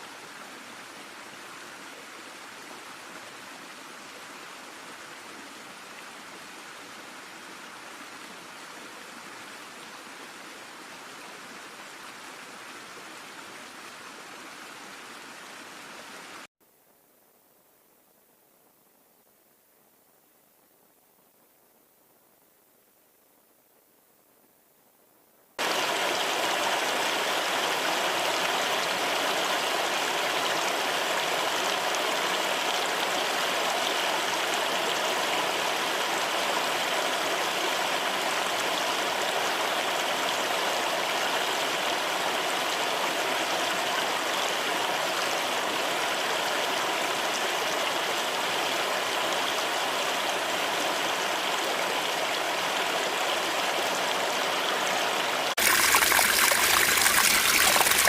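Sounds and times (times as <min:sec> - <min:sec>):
stream of flowing water: 0:00.0 - 0:16.5, 0:25.6 - 0:58.0.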